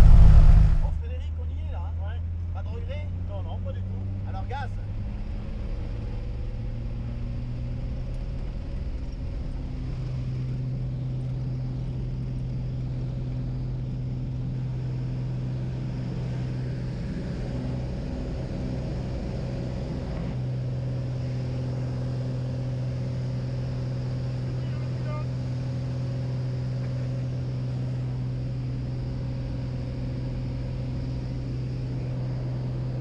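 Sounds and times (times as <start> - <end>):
light aircraft engine droning: 0.0 - 33.0.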